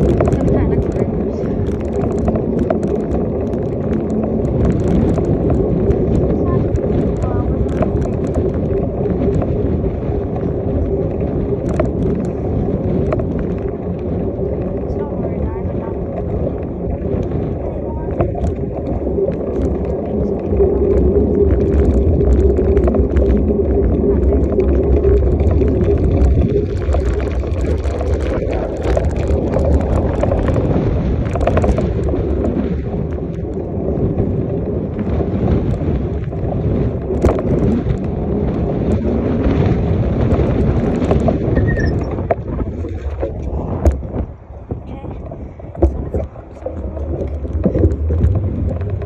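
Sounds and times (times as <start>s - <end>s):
small clicks and rattles: 0.0s - 49.0s
wind rushing over microphone: 0.0s - 49.0s.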